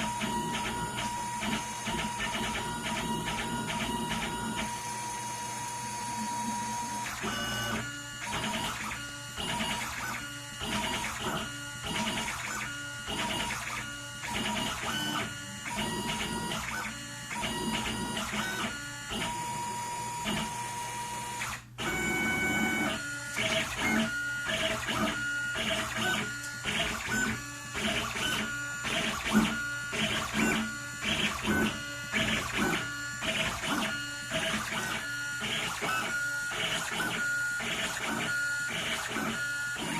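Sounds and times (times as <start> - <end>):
stepper motors whining: 0.0 - 39.9.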